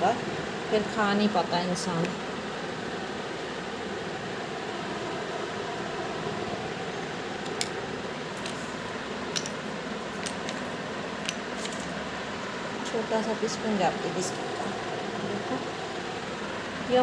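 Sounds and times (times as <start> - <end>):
electric fan whirring: 0.0 - 17.0.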